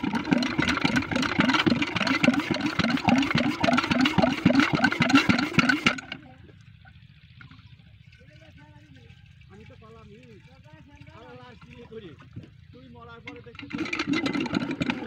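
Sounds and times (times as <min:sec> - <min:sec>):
small water pump engine pulsing: 0:00.0 - 0:15.0.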